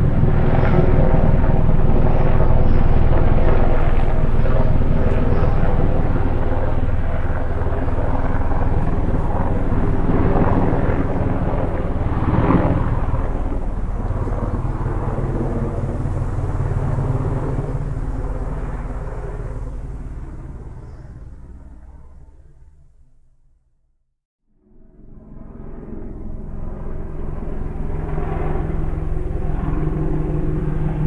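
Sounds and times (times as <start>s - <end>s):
helicopter rotor beating: 0.0s - 22.8s, 25.0s - 31.0s
helicopter flying by: 0.0s - 23.6s, 24.5s - 31.0s.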